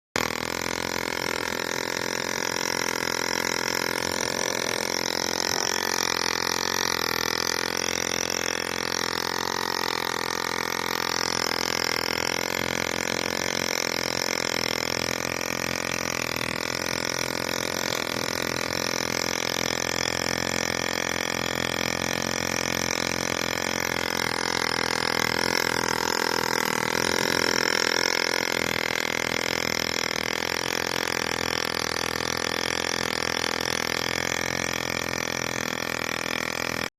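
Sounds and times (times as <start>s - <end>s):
model gasoline engine running: 0.2s - 36.9s.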